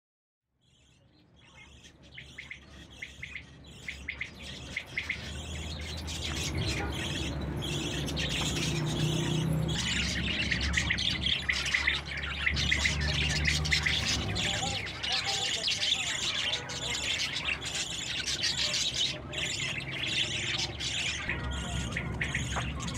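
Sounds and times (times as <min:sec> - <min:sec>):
budgerigars chirping and squawking: 0:00.6 - 0:22.9.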